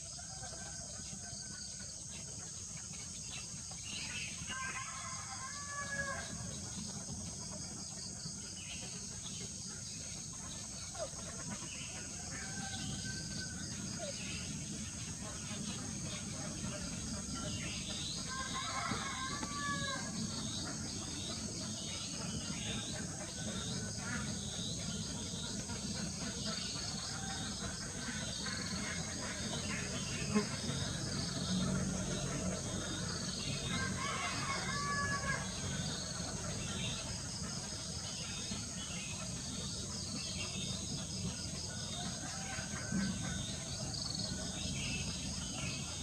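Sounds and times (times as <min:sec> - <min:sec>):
insect chorus: 0:00.0 - 0:46.0.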